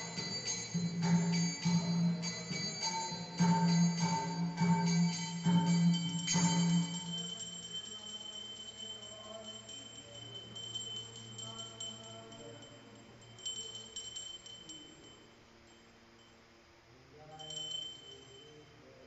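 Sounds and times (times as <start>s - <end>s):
metal hand bell ringing: 0.0s - 16.4s, 17.3s - 19.0s.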